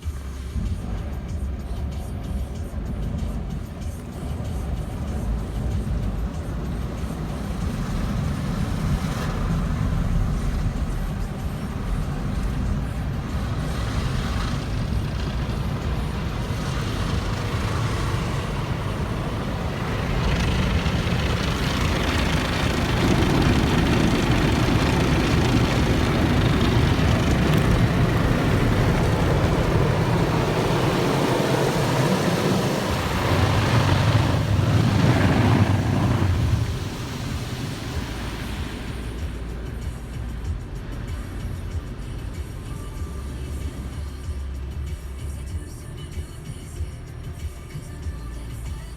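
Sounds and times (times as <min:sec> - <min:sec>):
car wash machinery: 0:00.0 - 0:48.9
spraying water: 0:00.0 - 0:48.9.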